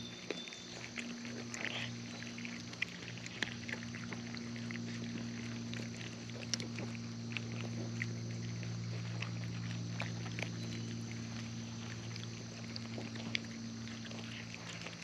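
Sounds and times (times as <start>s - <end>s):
cats chewing and licking: 0.0s - 15.0s
low electrical hum: 0.0s - 15.0s.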